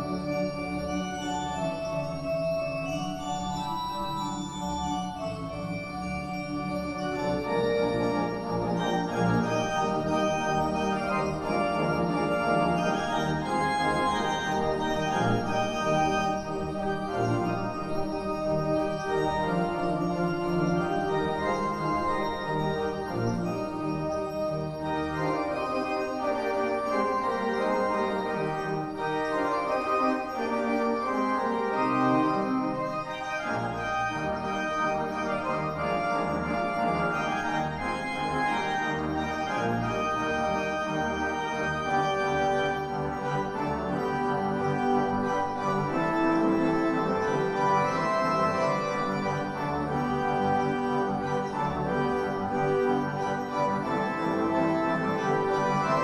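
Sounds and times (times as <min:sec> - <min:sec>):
deep organ pedal bass: 0:00.0 - 0:56.0
pipe organ chords: 0:00.0 - 0:56.0.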